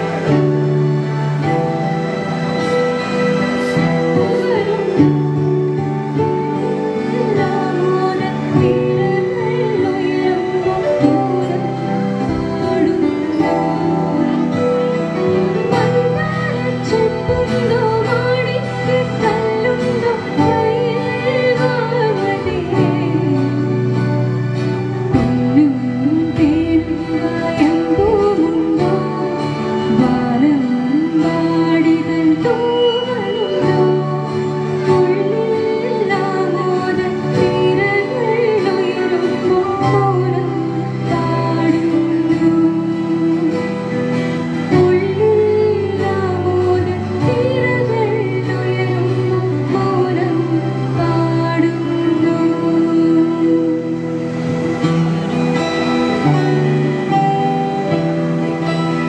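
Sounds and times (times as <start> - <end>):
acoustic guitar: 0.0 - 59.0
electronic keyboard chords: 0.0 - 59.0
girl singing into microphone: 3.6 - 54.8.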